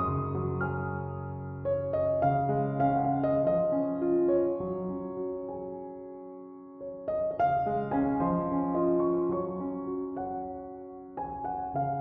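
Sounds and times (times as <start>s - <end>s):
soft piano-like keyboard music: 0.0s - 12.0s.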